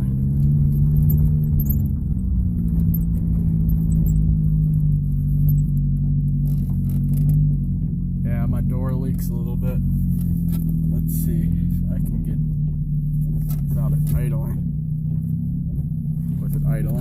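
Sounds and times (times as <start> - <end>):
car engine idling loud exhaust: 0.0 - 17.0.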